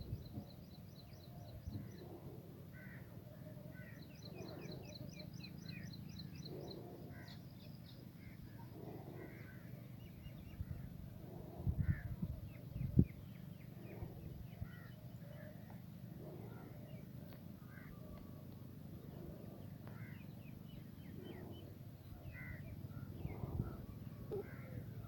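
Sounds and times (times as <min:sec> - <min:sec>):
birds calling and chirping: 0:00.0 - 0:25.0.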